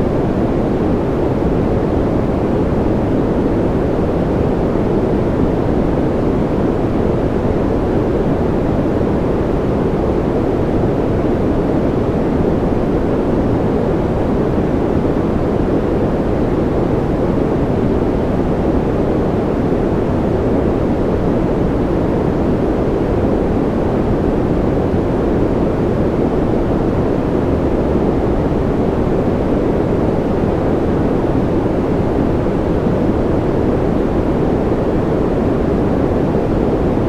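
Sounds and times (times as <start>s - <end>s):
steady white noise: 0.0s - 37.0s.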